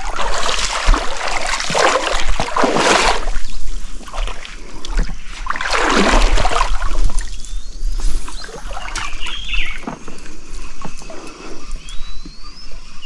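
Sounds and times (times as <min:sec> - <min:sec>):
water splashing and sloshing: 0:00.0 - 0:11.8.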